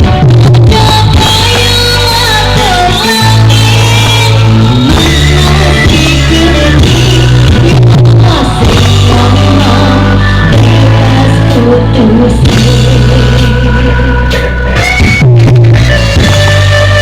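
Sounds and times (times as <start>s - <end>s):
loud rock music with heavy bass: 0.0s - 17.0s.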